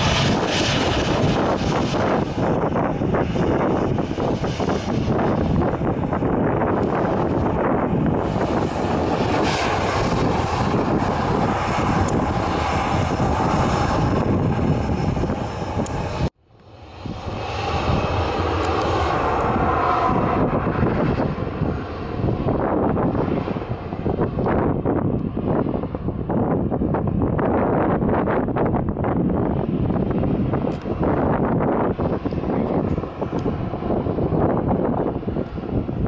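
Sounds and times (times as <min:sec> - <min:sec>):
aircraft engine noise: 0:00.0 - 0:36.0
wind buffeting microphone: 0:00.0 - 0:36.0.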